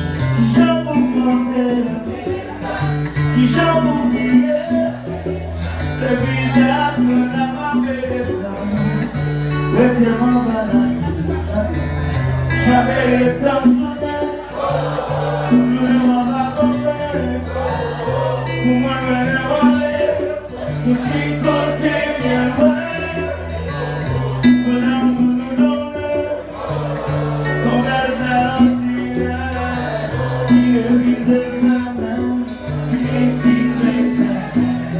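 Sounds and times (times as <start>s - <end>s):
acoustic guitar: 0.0s - 34.9s
man singing into microphone: 0.0s - 34.9s.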